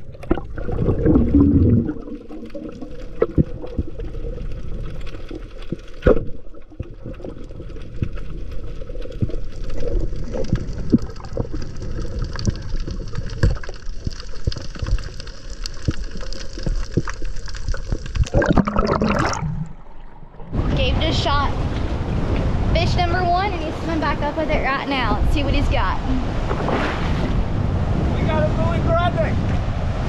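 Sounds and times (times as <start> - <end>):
splashing and gurgling: 0.0 - 22.3, 25.7 - 27.5
clicks and knocks underwater: 0.0 - 22.5, 25.7 - 27.4
muffled underwater water movement: 0.0 - 30.0.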